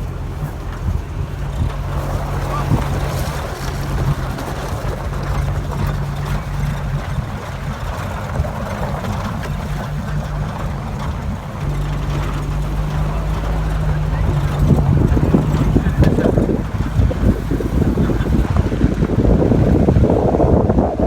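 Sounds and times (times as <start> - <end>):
road and wind noise: 0.0 - 21.0
vehicle engine hum: 0.0 - 21.0.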